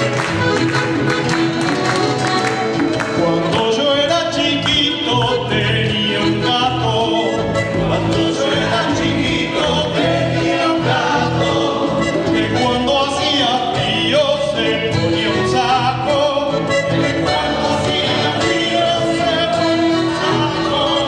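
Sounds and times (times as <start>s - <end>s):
instrumental accompaniment: 0.0s - 21.0s
people singing: 3.1s - 21.0s.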